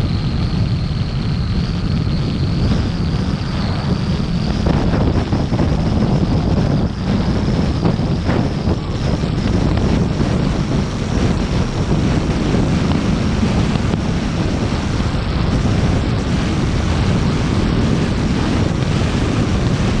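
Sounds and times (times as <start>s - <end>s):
car road noise: 0.0s - 20.0s
wind buffeting microphone: 0.0s - 20.0s.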